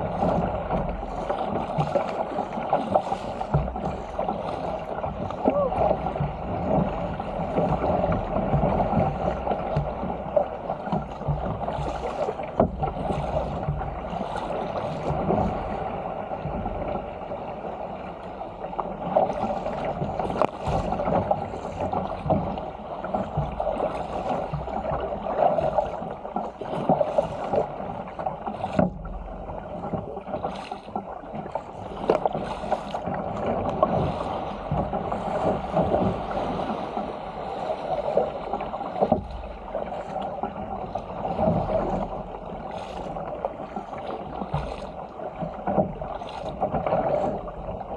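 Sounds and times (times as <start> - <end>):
paddle blades splashing: 0.0 - 47.9
water rushing along a hull: 0.0 - 47.9.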